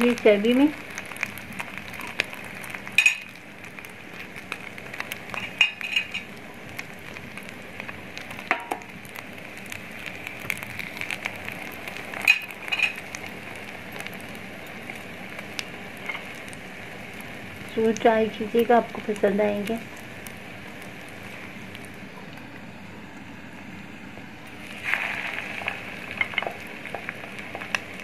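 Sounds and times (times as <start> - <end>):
food sizzling in a pan: 0.0 - 28.0.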